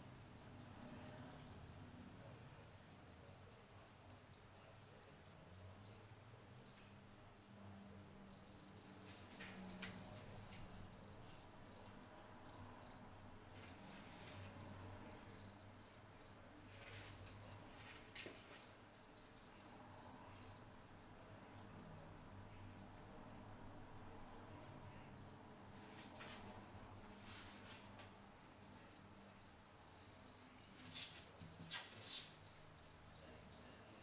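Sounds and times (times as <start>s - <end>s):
cricket chirping: 0.0s - 6.9s, 8.3s - 16.4s, 17.0s - 20.7s, 24.6s - 34.0s.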